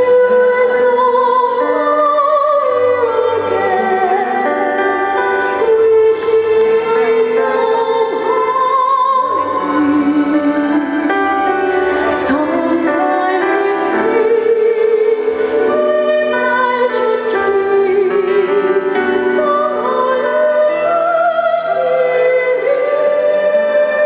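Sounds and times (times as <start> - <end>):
woman singing operatically: 0.0 - 11.3, 12.1 - 24.0
backing music: 0.0 - 24.0.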